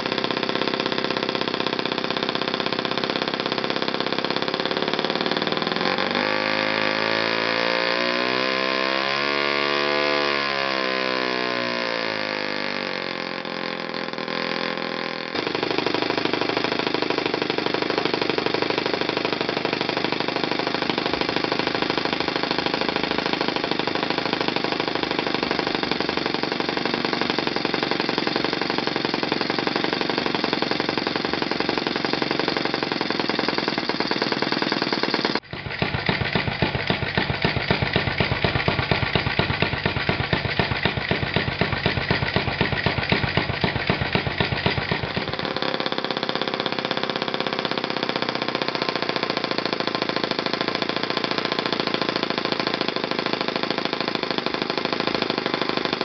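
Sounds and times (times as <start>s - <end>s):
model glow engine running: 0.0s - 56.0s.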